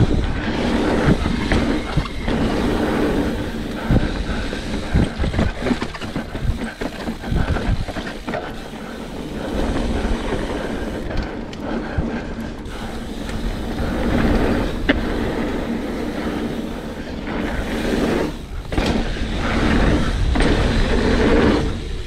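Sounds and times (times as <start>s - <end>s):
bike knocking and rattling: 0.0s - 22.0s
bike tyres rumbling on trail: 0.0s - 22.0s.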